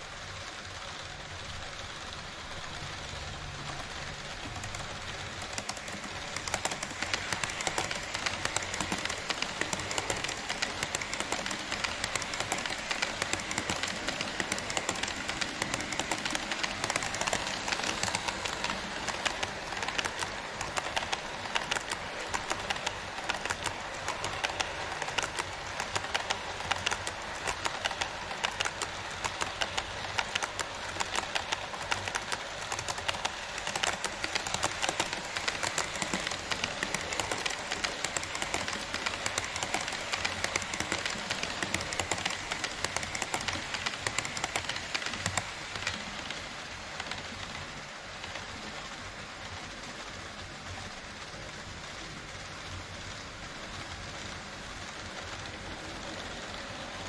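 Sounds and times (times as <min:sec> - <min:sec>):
model train rolling hiss: 0:00.0 - 0:57.0
sharp track clicks: 0:02.2 - 0:48.6.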